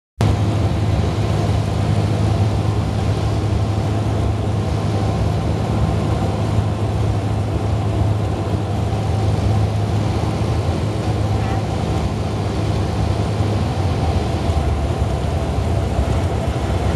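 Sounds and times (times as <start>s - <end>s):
light aircraft engine drone: 0.2s - 16.9s.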